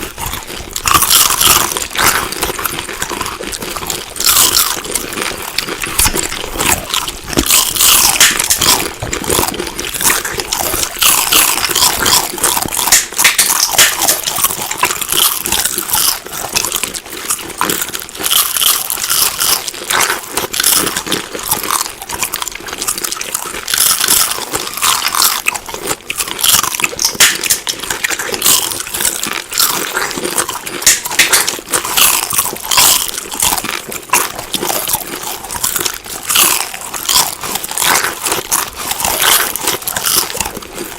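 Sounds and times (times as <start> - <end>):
chewing crunchy food: 0.0 - 40.9.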